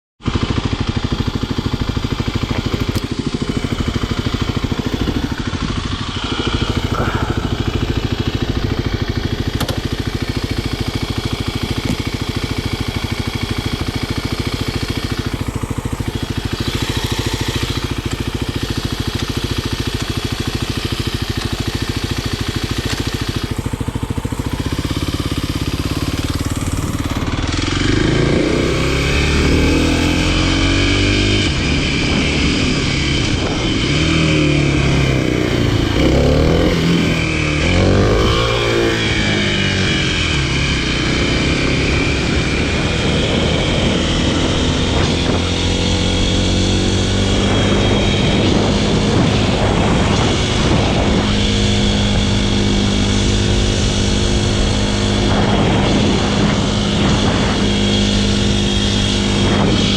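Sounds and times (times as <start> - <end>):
motorcycle engine revving: 0.2 - 59.9.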